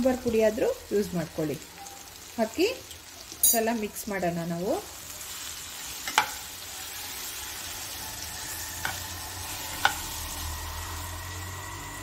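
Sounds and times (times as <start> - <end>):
fruit sizzling in a pan: 0.0 - 12.0.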